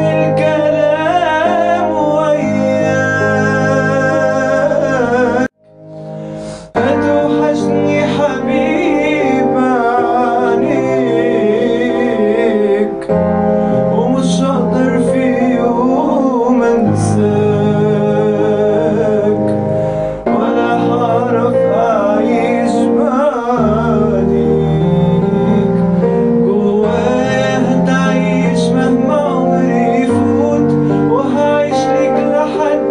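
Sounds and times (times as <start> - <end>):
man singing ornamented melody: 0.0 - 32.9
sustained instrumental accompaniment: 0.0 - 32.9.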